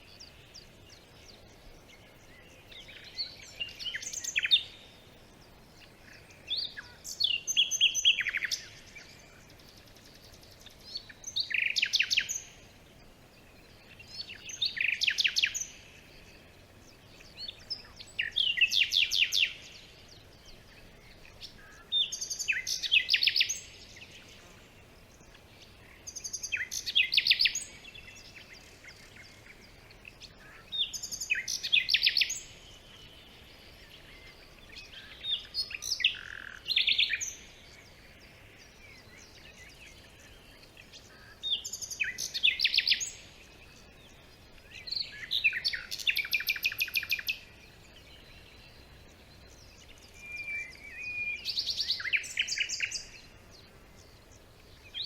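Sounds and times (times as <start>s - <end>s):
faint steady hiss: 0.0s - 55.0s
songbird singing: 0.0s - 55.0s.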